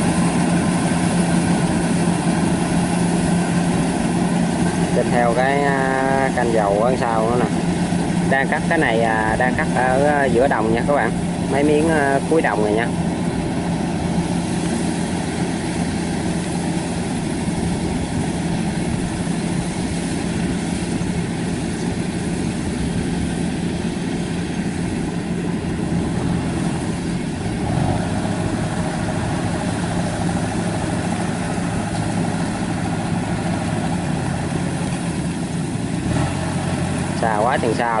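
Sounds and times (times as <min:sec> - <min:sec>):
combine harvester running: 0:00.0 - 0:38.0.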